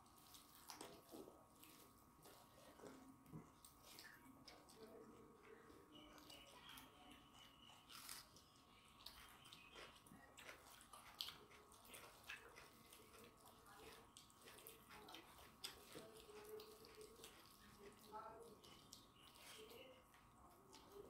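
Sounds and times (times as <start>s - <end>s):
chewing: 0.0s - 21.0s
faint steady hum: 0.0s - 21.0s
fingers mixing food on steel plates: 0.0s - 21.0s.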